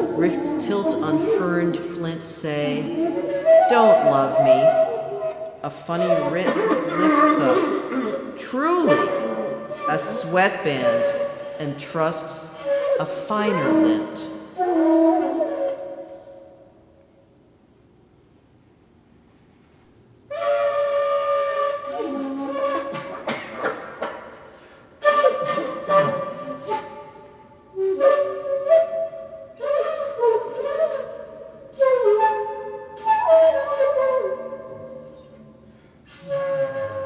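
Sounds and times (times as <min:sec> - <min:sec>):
breathy bamboo flute phrases: 0:00.0 - 0:16.7, 0:20.3 - 0:23.8, 0:24.6 - 0:37.0.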